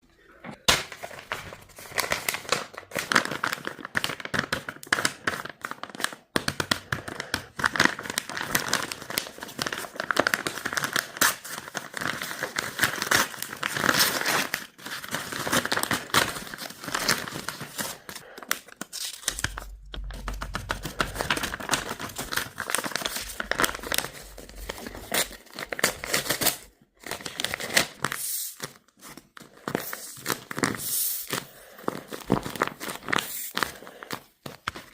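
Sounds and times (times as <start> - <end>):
plastic packaging crinkling: 0.8 - 6.3, 6.9 - 34.9.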